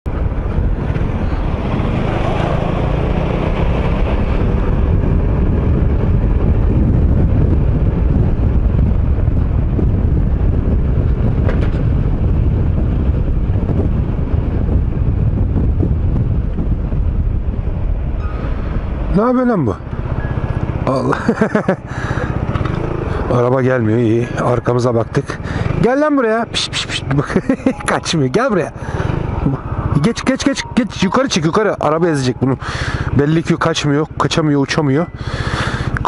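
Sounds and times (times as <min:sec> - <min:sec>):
motorcycle engine rumble: 0:00.1 - 0:36.0
wind rushing over microphone: 0:00.1 - 0:36.0.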